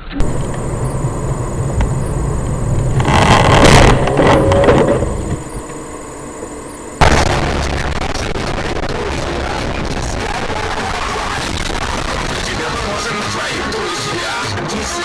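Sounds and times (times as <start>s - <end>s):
road and engine rumble: 0.0s - 13.1s.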